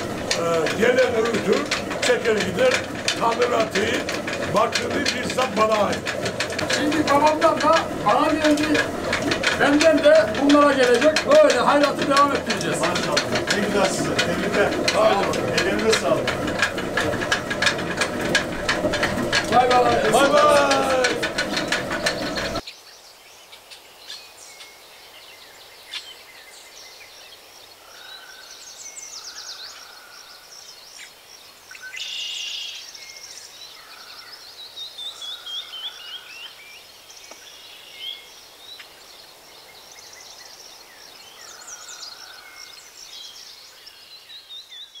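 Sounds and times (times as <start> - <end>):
songbirds singing and chirping: 0.0 - 45.0.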